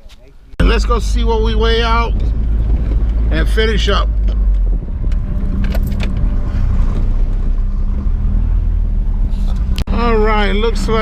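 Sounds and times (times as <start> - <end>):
truck engine running: 0.6 - 11.0.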